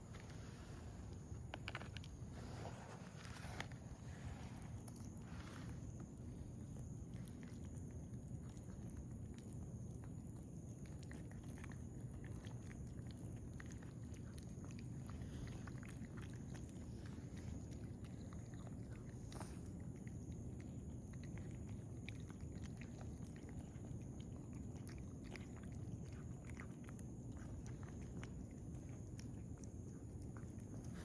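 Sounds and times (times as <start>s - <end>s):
cats chewing food: 0.0s - 31.0s
low background noise: 0.0s - 31.0s.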